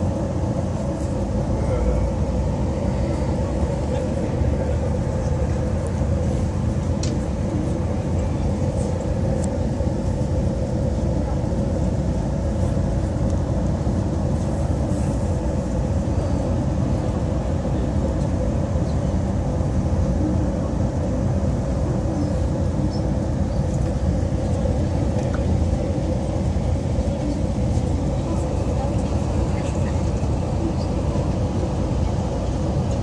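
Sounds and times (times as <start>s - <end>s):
vehicle interior running noise: 0.0s - 33.0s.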